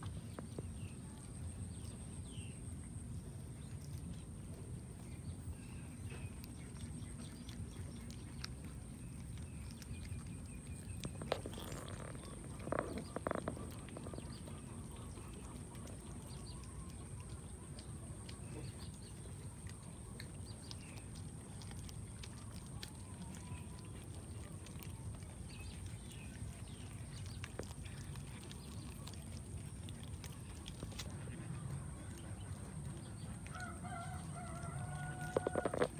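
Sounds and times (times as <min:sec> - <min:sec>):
cats chewing raw fish: 0:00.0 - 0:35.9
low outdoor rumble: 0:00.0 - 0:35.9.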